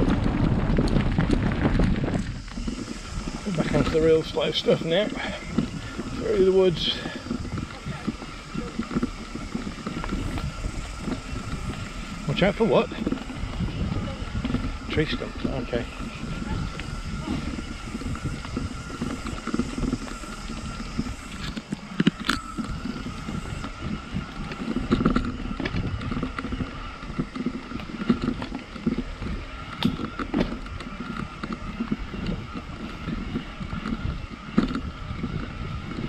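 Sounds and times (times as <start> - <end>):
bike rattling over rough dirt: 0.0 - 36.0.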